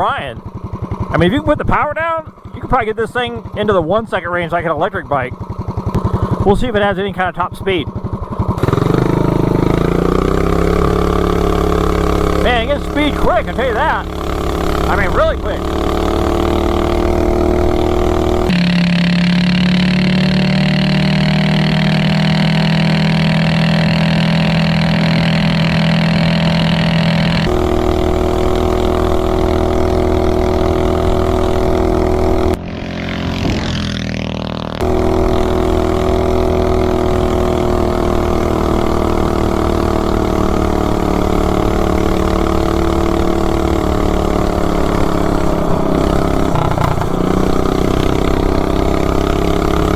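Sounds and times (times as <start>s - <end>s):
small engine revving high: 8.3s - 49.9s.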